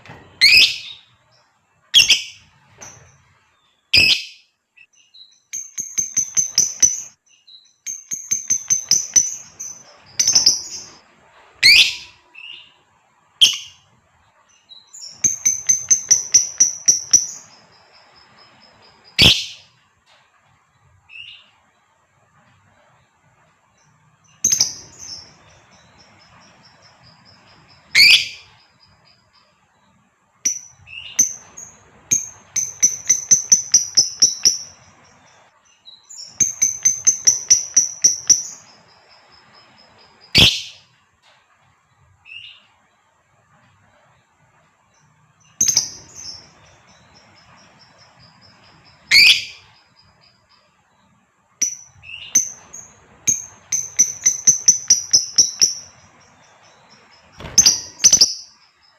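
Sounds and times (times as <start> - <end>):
lovebird chirping: 0.0 - 19.8, 23.7 - 41.0, 44.9 - 58.9.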